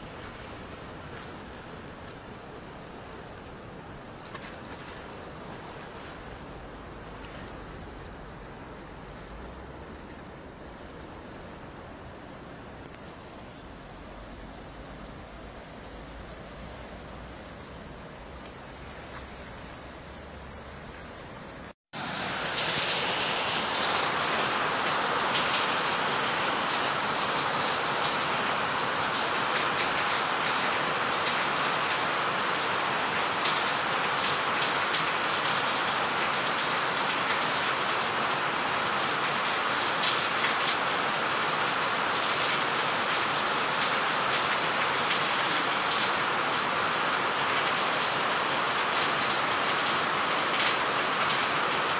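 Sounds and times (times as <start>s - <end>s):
water rushing: 0.0s - 51.9s.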